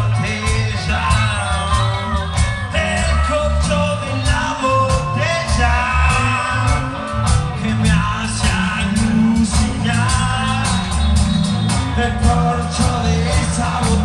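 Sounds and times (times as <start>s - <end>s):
drums beating: 0.0s - 14.0s
electric guitars: 0.0s - 14.0s
men singing: 0.0s - 14.0s.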